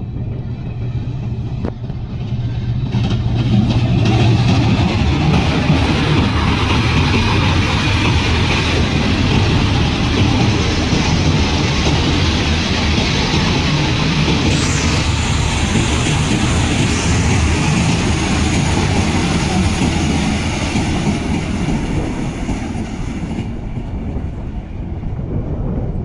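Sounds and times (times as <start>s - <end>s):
diesel locomotive engine: 0.0s - 26.0s
train wheels rumbling on bridge: 0.0s - 26.0s.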